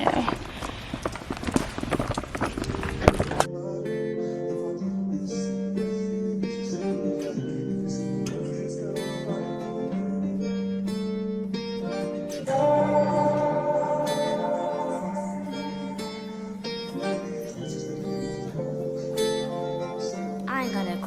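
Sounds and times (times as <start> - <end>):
acoustic guitar chords: 3.0 - 21.0.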